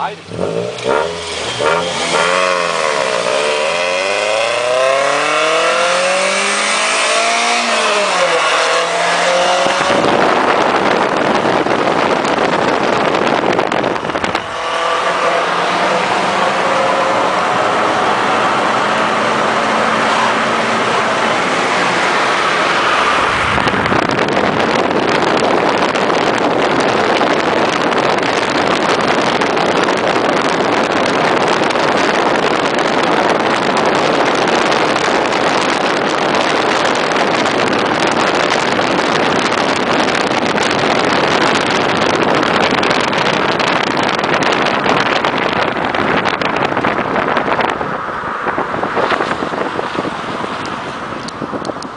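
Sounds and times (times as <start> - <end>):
wind and road noise: 0.0 - 51.9
car engine accelerating: 0.2 - 51.9.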